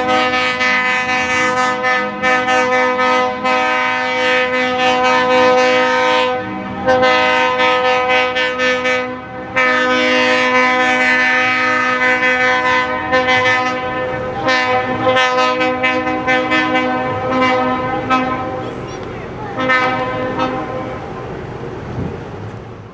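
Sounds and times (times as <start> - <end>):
train horn blasts: 0.0 - 18.8, 19.6 - 21.1.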